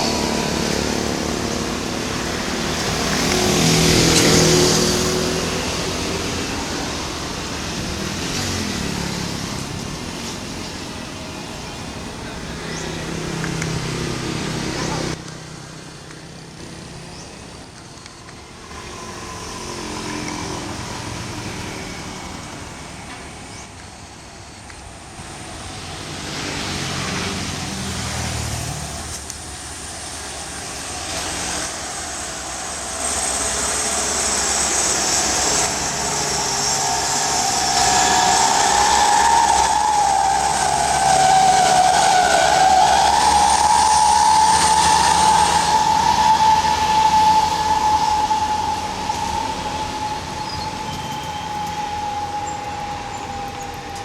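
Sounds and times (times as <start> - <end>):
high wavering whine: 0.0 - 15.2, 15.9 - 54.0
truck engine labouring: 0.0 - 54.0.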